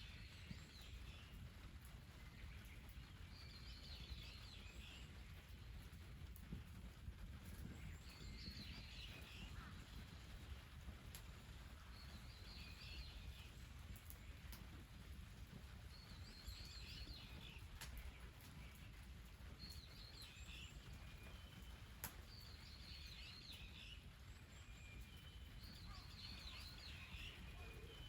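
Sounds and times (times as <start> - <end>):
low steady background rumble: 0.0 - 28.0.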